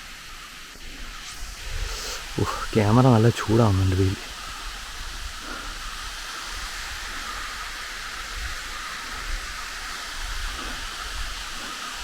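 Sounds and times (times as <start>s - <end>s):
waterfall hissing: 0.0s - 12.0s.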